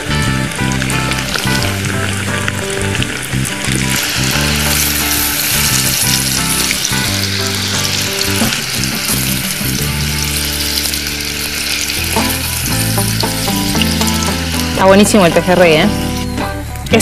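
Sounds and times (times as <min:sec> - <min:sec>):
fish deep-frying in oil: 0:00.0 - 0:17.0.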